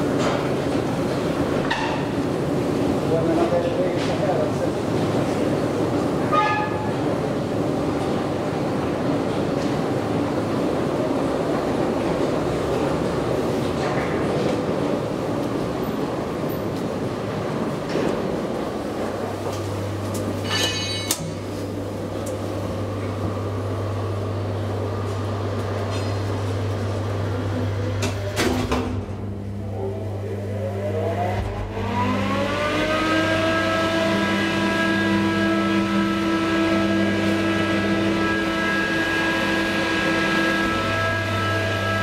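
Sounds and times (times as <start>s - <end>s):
elevator drive whine: 0.0s - 42.0s
steady hum: 0.0s - 42.0s.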